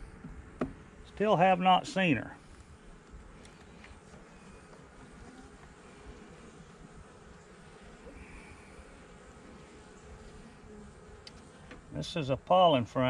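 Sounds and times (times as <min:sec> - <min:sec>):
honeybees humming: 0:00.0 - 0:13.0.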